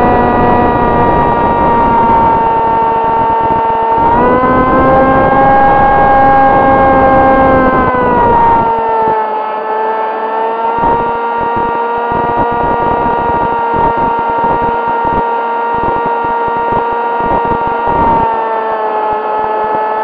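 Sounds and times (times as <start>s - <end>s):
wind rushing on microphone: 0.0s - 9.2s, 10.8s - 18.4s
electric motor and propeller whining: 0.0s - 20.0s.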